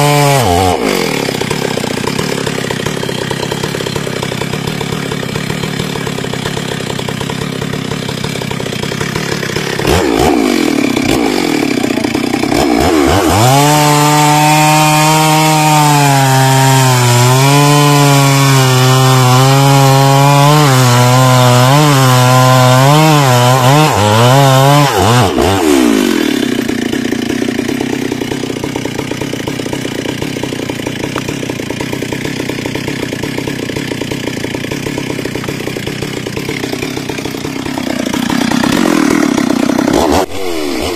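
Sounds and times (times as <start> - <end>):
chainsaw revving and cutting wood: 0.0 - 40.9.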